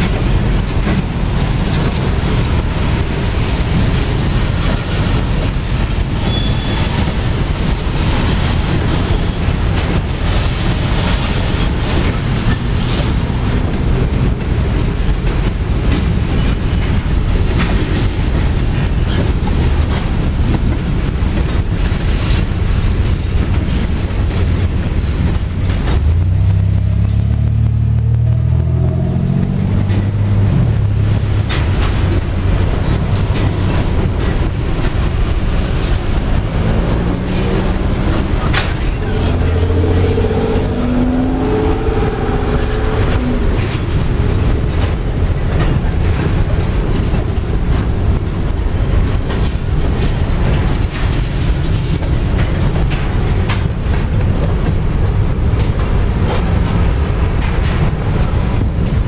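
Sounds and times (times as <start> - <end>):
locomotive engine accelerating: 0.0 - 59.0
train wheels rumbling on rail: 0.0 - 59.0.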